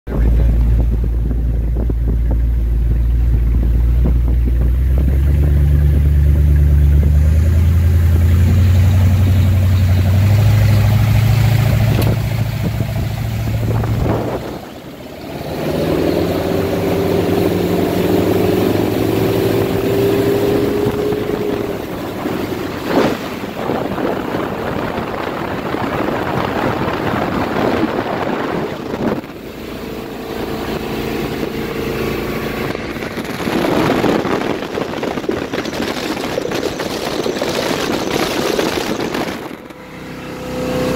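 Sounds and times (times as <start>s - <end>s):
boat engine accelerating: 0.1s - 40.9s
rush of water and wind: 3.8s - 40.9s.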